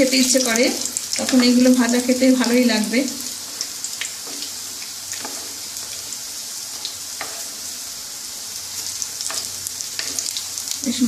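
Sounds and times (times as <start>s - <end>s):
deep-frying sizzle: 0.0s - 11.0s.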